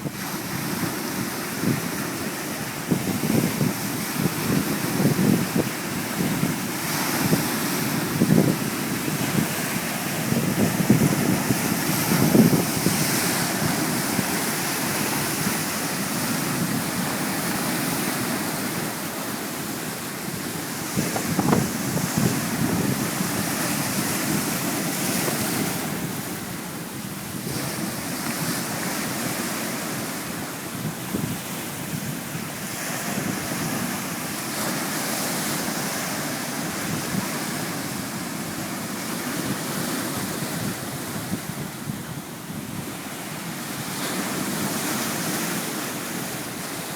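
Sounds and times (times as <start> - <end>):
wind buffeting microphone: 0.0 - 34.7, 36.1 - 45.4
sea surf washing onto shore: 0.0 - 46.9.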